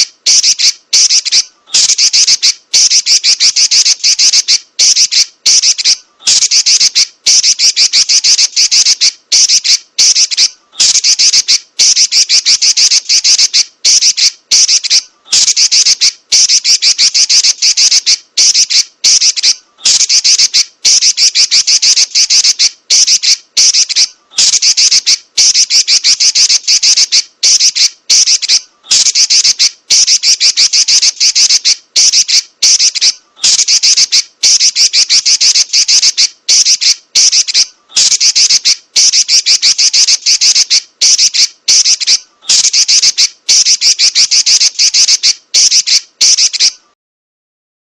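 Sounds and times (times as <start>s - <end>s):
bird high-pitched chattering: 0.0s - 46.8s.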